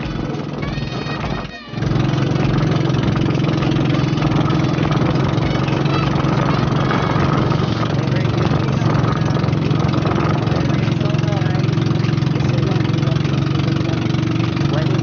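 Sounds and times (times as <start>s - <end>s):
boat engine humming: 0.0s - 15.0s
water rushing past hull: 0.0s - 15.0s.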